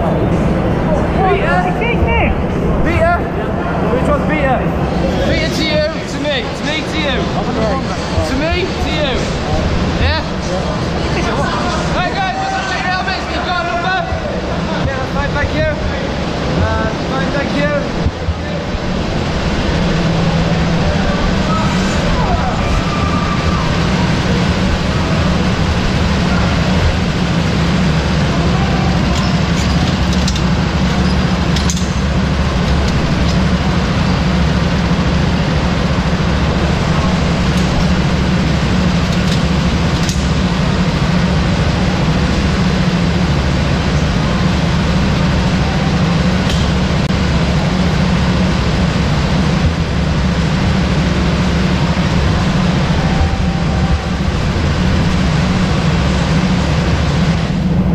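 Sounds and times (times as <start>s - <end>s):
go-kart engine running: 4.4s - 57.9s.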